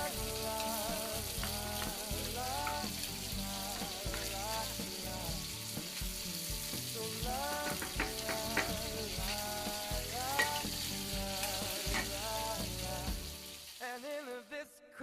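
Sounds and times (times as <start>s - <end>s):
food sizzling in a hot pan: 0.0s - 14.5s.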